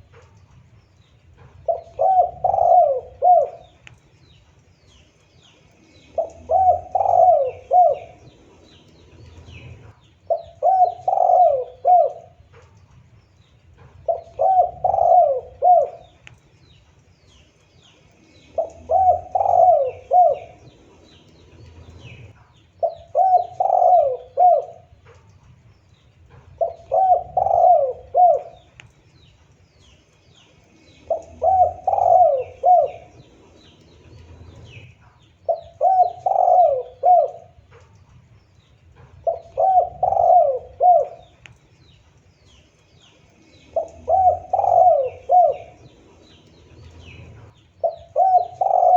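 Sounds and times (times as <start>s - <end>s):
dove cooing: 1.3s - 4.0s, 5.8s - 13.0s, 13.7s - 16.4s, 18.3s - 48.9s.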